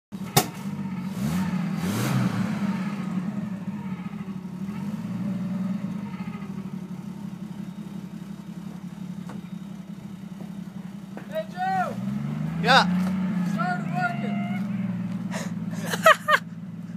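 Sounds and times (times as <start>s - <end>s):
snowcat engine running: 0.1s - 16.9s.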